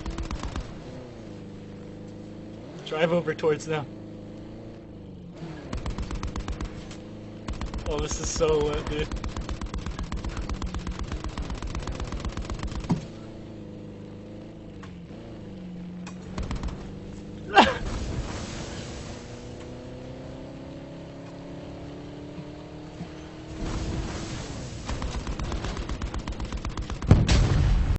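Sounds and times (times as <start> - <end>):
car engine running: 0.0 - 27.9.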